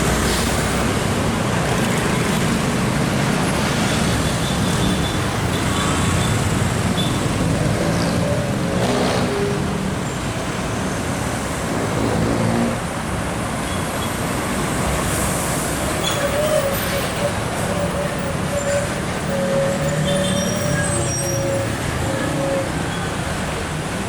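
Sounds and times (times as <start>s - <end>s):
heavy trucks diesel engines: 0.0s - 24.0s
road traffic passing: 0.0s - 24.0s.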